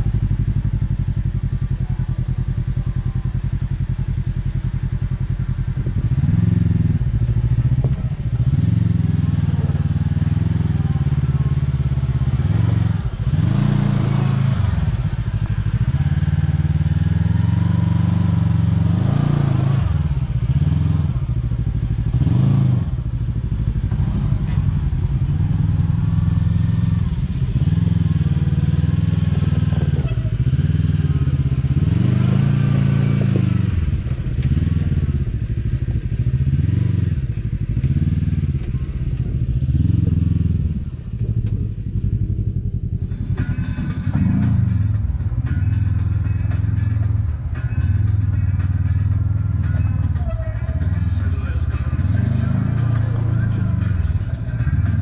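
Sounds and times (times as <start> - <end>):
engine revving at low speed: 4.8 - 55.0.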